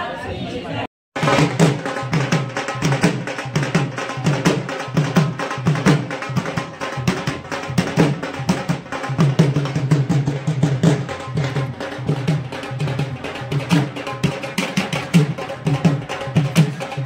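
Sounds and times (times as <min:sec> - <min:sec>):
fast drumming and hand percussion: 0:01.2 - 0:17.0.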